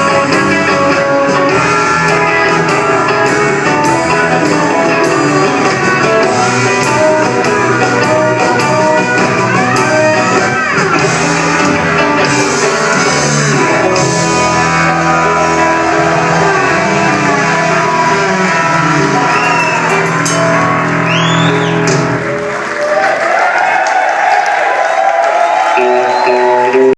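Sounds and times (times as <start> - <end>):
live rock band playing: 0.0 - 23.2, 25.3 - 26.9.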